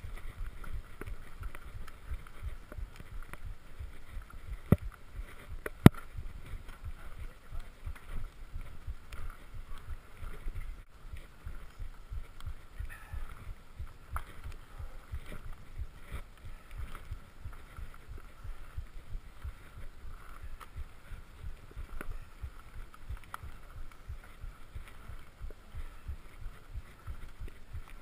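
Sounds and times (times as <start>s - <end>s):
camera rumbling and knocking: 0.0s - 28.0s
tyres and wind hiss: 0.0s - 28.0s.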